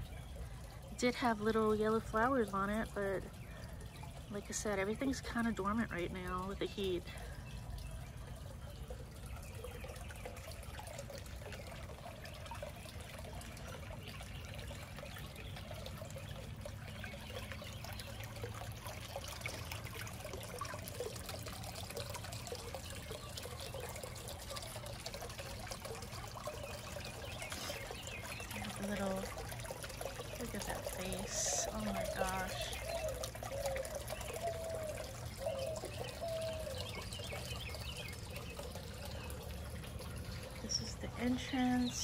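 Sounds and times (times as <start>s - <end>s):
fountain water trickling: 0.0s - 42.0s.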